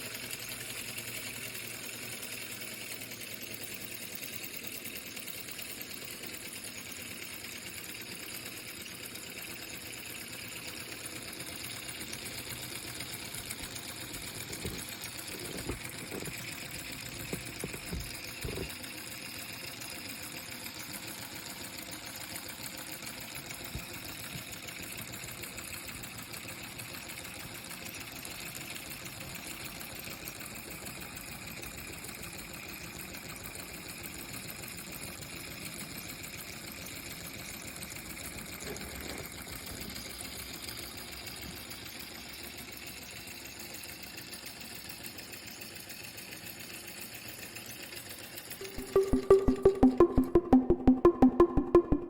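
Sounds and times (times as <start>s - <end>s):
small air engine clattering: 0.0s - 48.6s.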